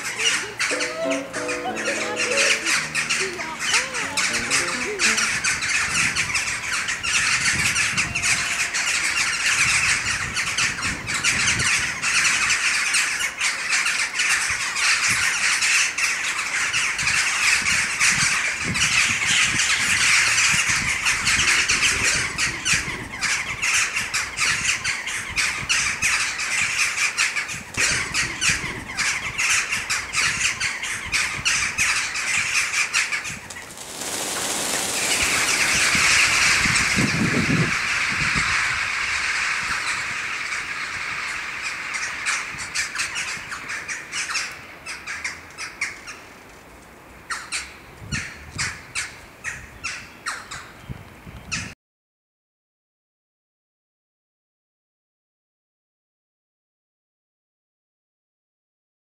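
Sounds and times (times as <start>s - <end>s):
flock of crows calling: 0.0s - 46.3s, 47.3s - 50.8s.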